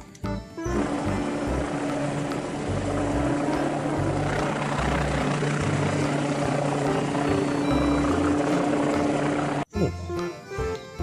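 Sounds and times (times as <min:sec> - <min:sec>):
helicopter hovering: 0:00.7 - 0:09.7.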